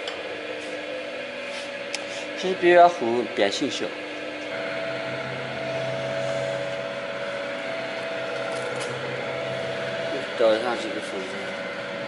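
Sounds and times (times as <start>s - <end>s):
electric drive humming: 0.0s - 12.0s.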